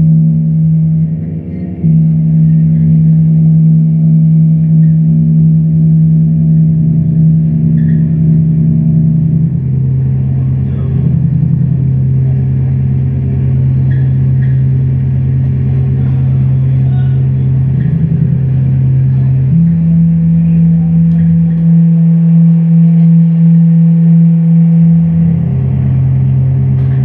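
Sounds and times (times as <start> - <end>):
low droning experimental music: 0.0 - 27.0.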